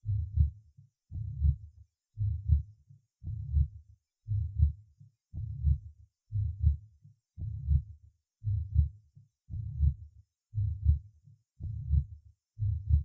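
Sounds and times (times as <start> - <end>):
heartbeat with rough murmur: 0.0 - 13.0.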